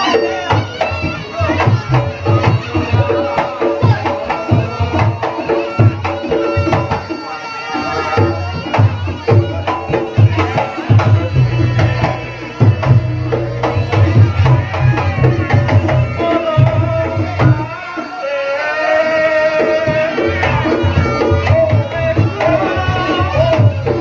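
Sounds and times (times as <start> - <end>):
hand drums beating fast: 0.0 - 18.1, 19.1 - 24.0
high melody line: 0.0 - 24.0.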